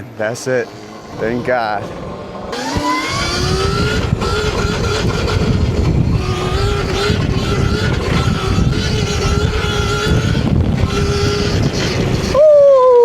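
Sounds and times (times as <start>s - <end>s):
electric dirt bike motor whine: 0.0s - 13.0s
wind rumble on microphone: 1.1s - 13.0s.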